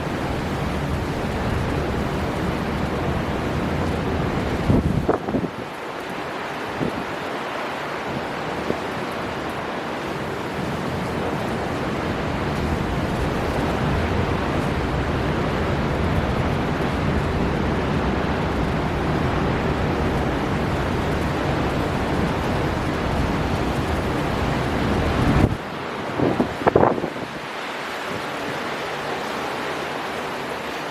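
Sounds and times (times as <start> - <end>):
storm wind: 0.0 - 30.9
surf on shore: 0.0 - 30.9.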